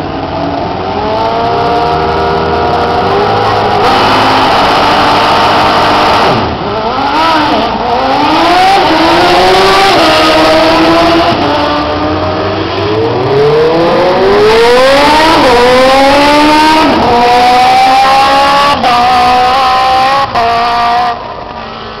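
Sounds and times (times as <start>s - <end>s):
drag racing engine accelerating: 0.0s - 22.0s.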